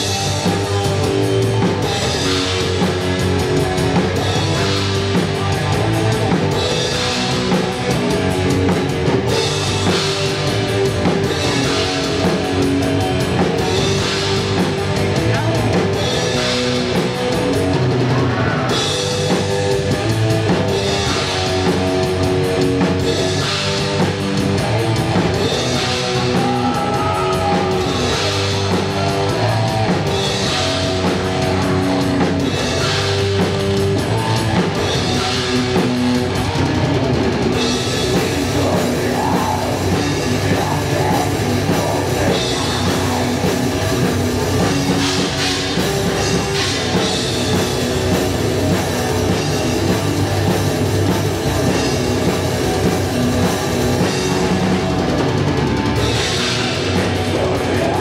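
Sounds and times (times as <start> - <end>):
distorted electric guitar: 0.0 - 58.0
drum and cymbal accents: 0.0 - 58.0
metal band playing live: 0.0 - 58.0.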